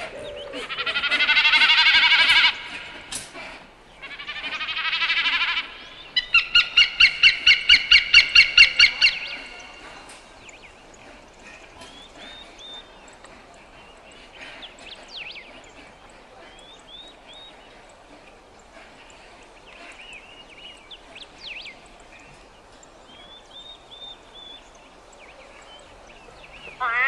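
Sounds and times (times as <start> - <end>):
birds chirping and whistling: 0.0 - 26.9
steady outdoor hiss: 0.0 - 27.0.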